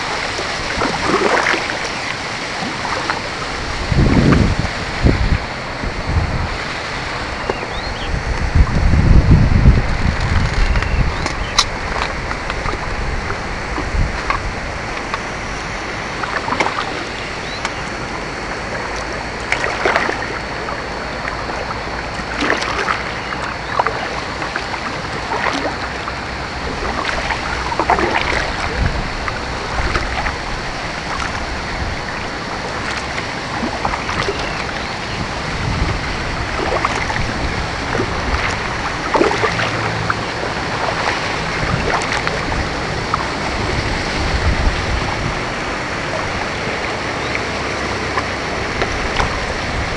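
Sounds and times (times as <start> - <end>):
paddle splashing in water: 0.0 - 49.9
rushing water and air: 0.0 - 49.9.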